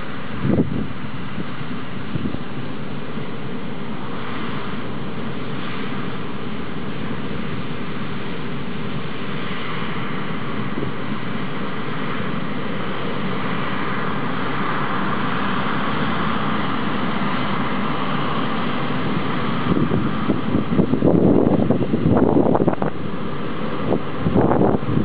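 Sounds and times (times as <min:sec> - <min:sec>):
combine harvester running: 0:00.0 - 0:25.0.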